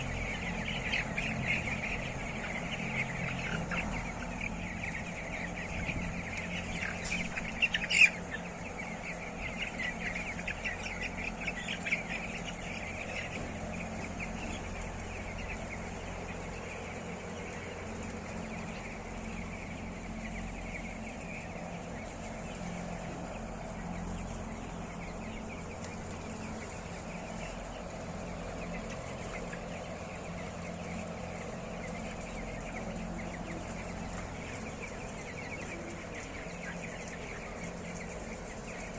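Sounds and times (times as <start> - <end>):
chickens clucking: 0.0 - 38.9
constant low hum: 0.0 - 38.9.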